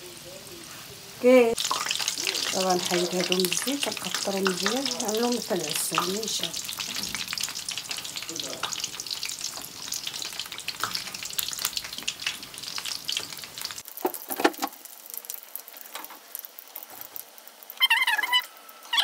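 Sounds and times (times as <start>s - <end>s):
pastries sizzling in hot oil: 0.0s - 19.0s.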